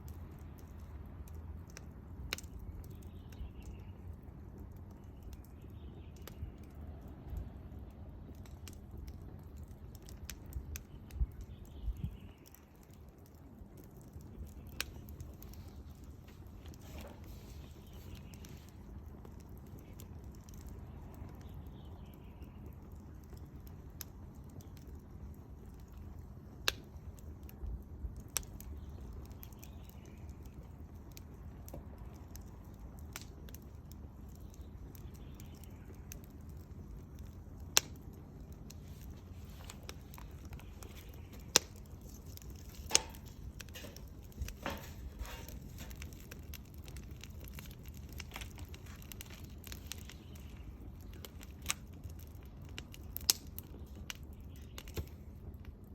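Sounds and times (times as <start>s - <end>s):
sharp pops of fire: 0.0s - 55.9s
wood fire crackling: 0.0s - 55.9s.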